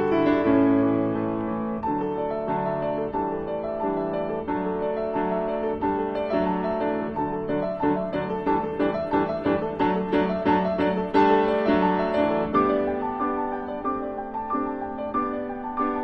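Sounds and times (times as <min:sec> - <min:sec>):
background piano music: 0:00.0 - 0:16.0.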